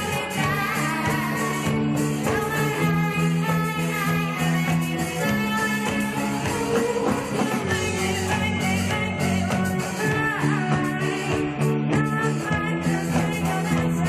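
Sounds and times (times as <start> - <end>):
electric guitar: 0.0 - 14.0
rock band playing: 0.0 - 14.0.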